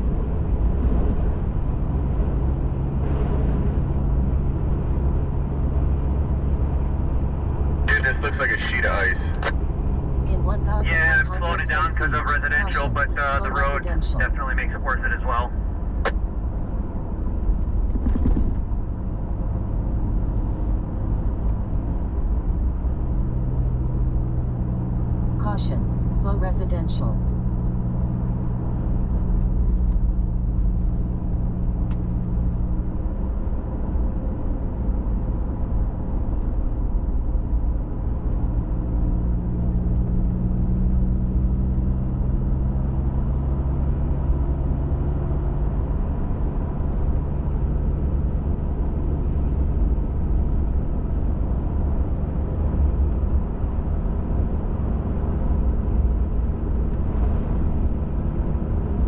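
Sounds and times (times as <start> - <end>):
truck engine hum and road rumble: 0.0 - 59.0.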